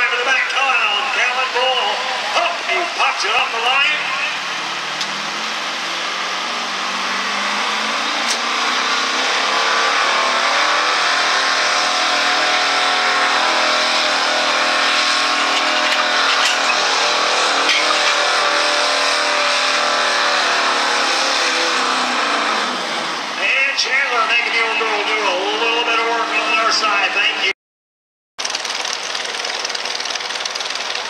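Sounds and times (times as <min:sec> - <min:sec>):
truck engine revving hard: 0:00.0 - 0:27.5.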